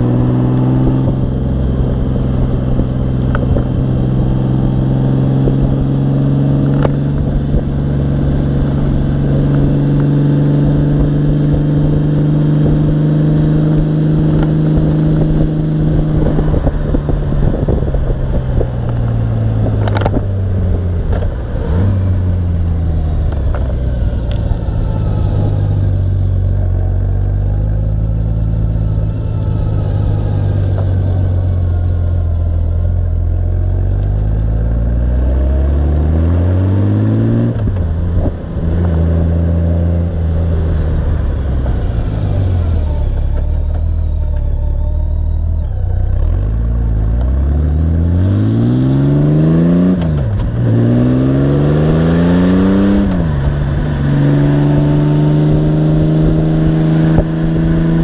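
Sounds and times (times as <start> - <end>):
motorcycle engine cruising: 0.0 - 58.0
tyre road noise: 0.0 - 58.0.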